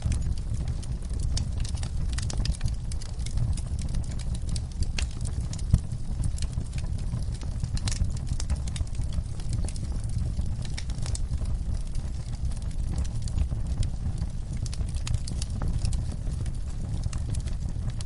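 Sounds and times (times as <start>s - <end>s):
fire popping: 0.0s - 18.0s
low steady rumble: 0.0s - 18.0s
wood fire crackling: 0.0s - 18.0s.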